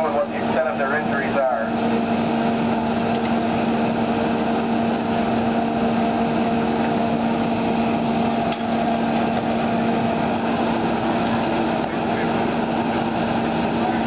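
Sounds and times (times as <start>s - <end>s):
small engine running steadily: 0.0s - 14.0s.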